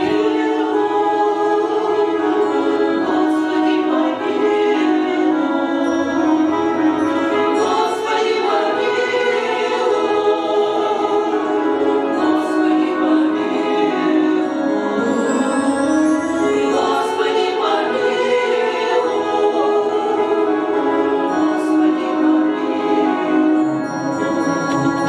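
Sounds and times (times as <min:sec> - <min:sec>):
choir singing sustained chords: 0:00.0 - 0:25.0.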